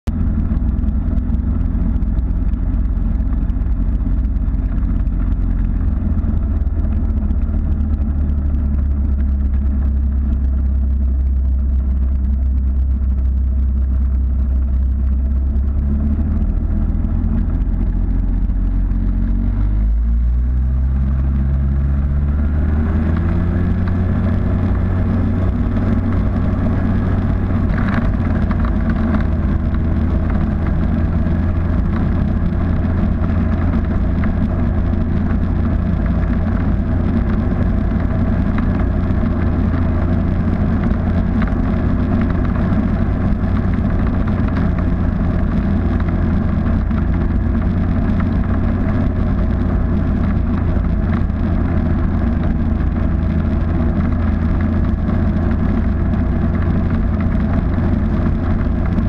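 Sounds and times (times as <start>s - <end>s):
ultralight engine and propeller: 0.0s - 59.0s.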